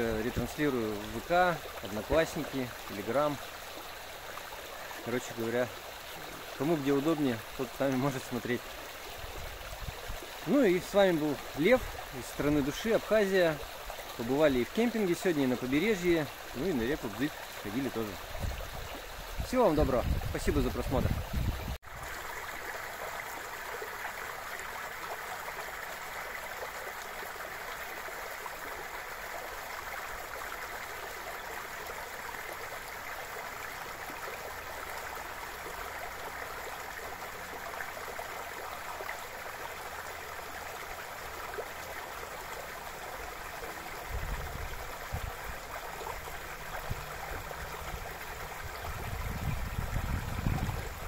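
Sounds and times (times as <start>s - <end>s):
river water rushing: 0.0s - 21.0s, 21.8s - 51.0s.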